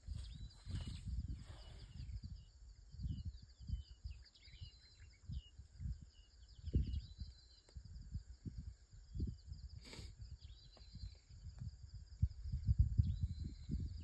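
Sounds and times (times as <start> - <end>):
birds chirping: 0.0 - 11.6
wind buffeting microphone: 0.0 - 14.0.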